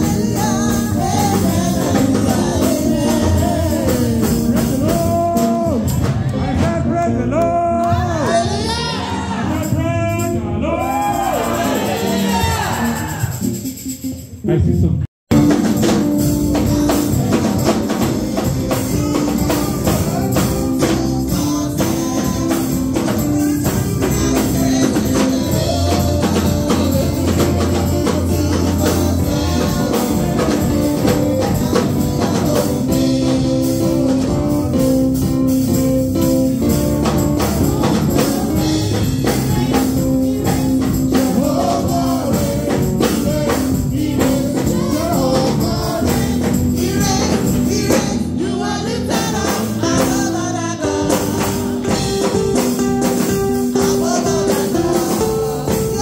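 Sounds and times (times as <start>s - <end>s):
singers singing gospel: 0.0s - 13.9s, 15.4s - 56.0s
drum kit and percussion: 0.0s - 56.0s
electric keyboard: 0.0s - 56.0s.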